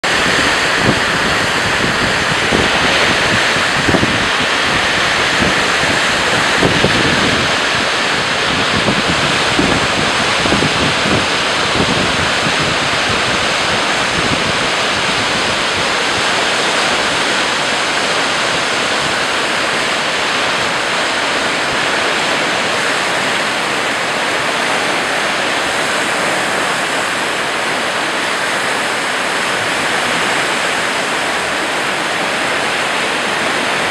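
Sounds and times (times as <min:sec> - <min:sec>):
white water rushing: 0:00.0 - 0:33.9
wind buffeting microphone: 0:00.0 - 0:33.9.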